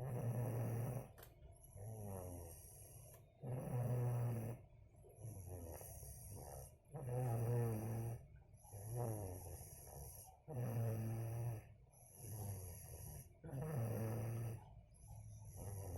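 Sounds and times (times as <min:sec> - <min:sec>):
child snoring: 0:00.0 - 0:01.2, 0:01.8 - 0:04.6, 0:05.2 - 0:14.7, 0:15.5 - 0:15.9.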